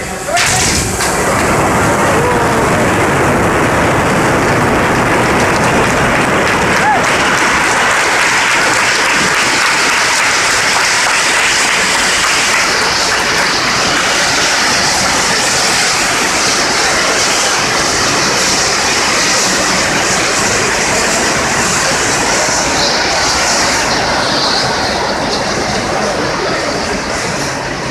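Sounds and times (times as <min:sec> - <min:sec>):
firework fountains hissing: 0:00.0 - 0:27.9.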